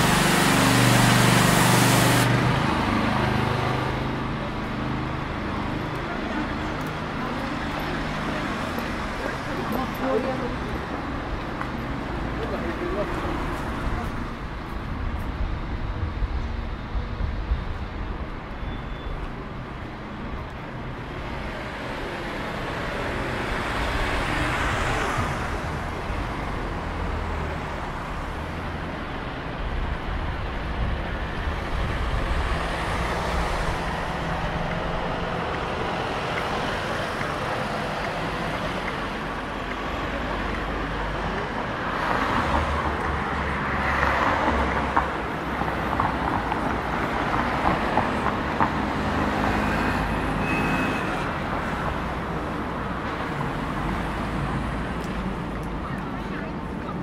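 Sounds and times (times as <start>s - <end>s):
traffic rumble: 0.0s - 57.0s
vehicles passing: 0.0s - 57.0s.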